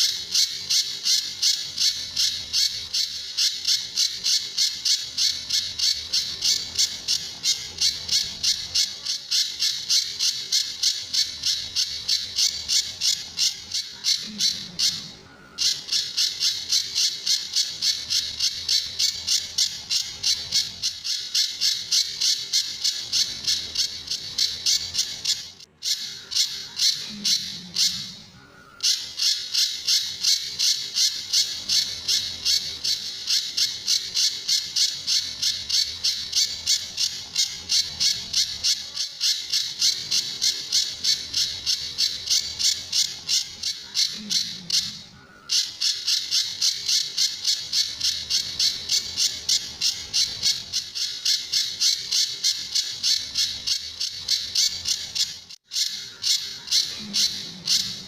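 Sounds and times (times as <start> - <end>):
bird calling harsh sharp notes: 0.0 - 58.0.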